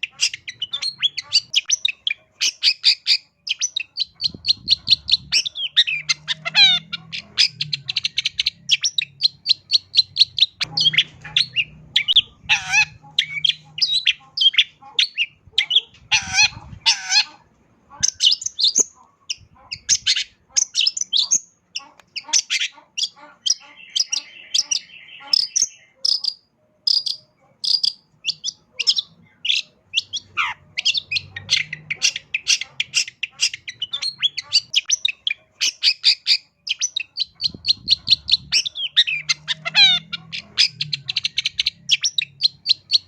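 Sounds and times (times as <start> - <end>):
bird singing chirps and trills: 0.0 - 17.3, 18.0 - 43.0.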